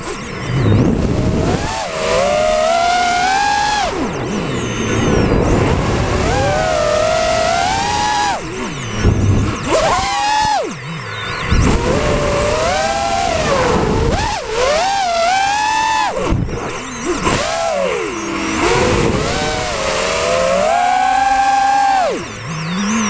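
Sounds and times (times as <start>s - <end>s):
propeller wash and wind hiss: 0.0s - 10.6s, 11.5s - 16.5s, 17.2s - 22.1s
drone motors whining: 0.0s - 23.0s.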